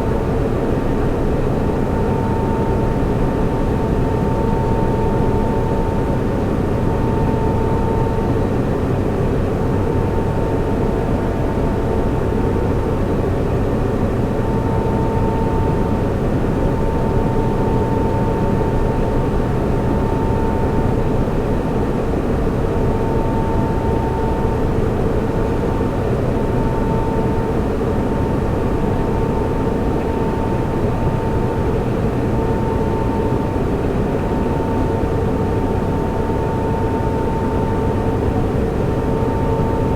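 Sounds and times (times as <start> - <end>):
cooling fans humming: 0.0 - 39.9.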